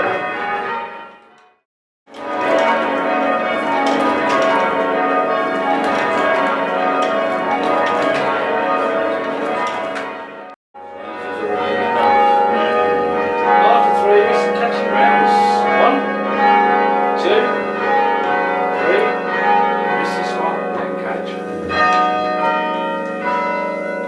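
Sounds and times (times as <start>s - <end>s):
church bells change ringing: 0.0s - 1.5s, 2.1s - 24.0s.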